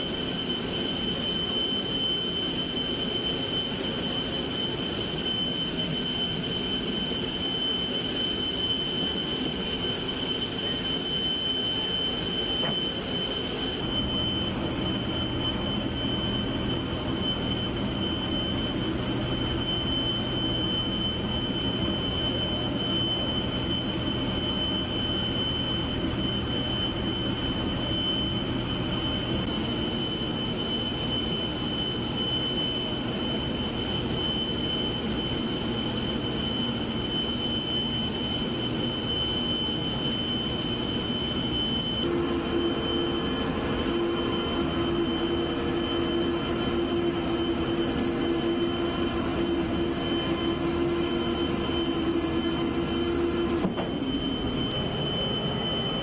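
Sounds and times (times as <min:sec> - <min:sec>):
machinery high whine: 0:00.0 - 0:56.0.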